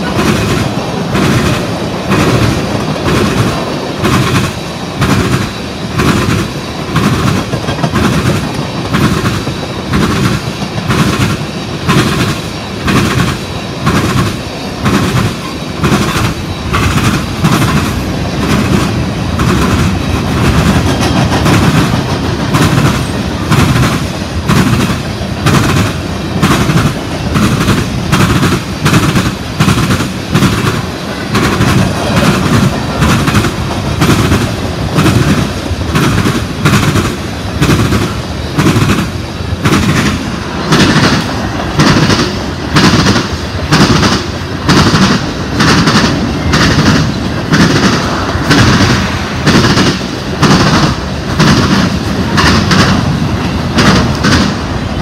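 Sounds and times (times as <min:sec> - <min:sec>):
train rumble: 0:00.0 - 0:55.0
train wheels clacking on track: 0:00.0 - 0:55.0.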